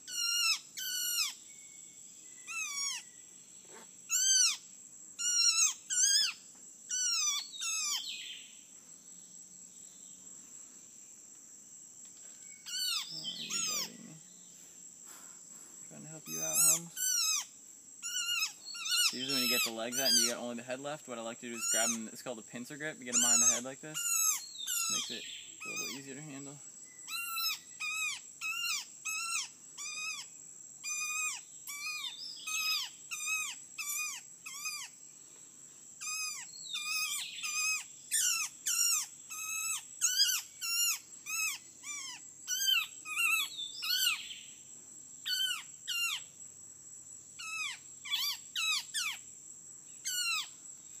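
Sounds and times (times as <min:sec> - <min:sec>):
small bird calling: 0:00.0 - 0:08.7, 0:12.2 - 0:35.4, 0:36.0 - 0:44.6, 0:45.2 - 0:46.4, 0:47.4 - 0:49.3, 0:49.9 - 0:51.0
high insect whine: 0:00.0 - 0:51.0.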